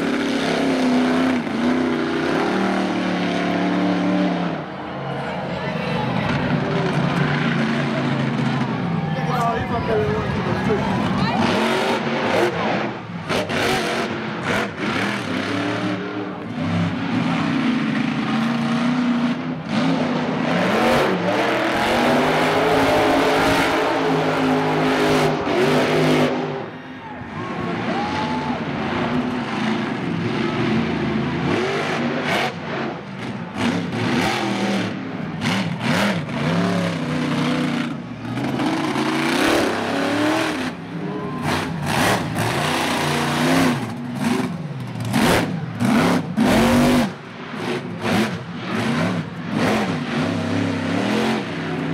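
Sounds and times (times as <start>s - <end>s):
monster truck engine revving: 0.0s - 51.9s.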